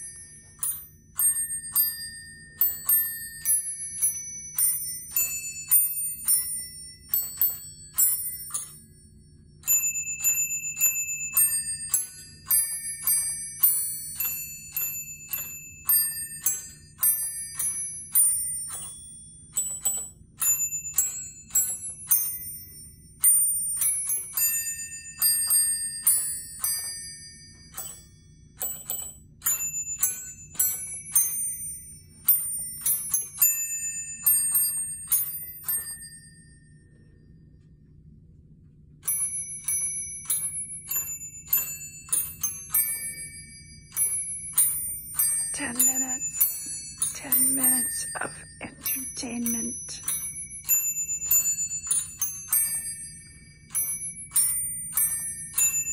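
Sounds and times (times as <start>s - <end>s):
small bells playing a tune: 0.0s - 37.8s, 39.0s - 55.9s.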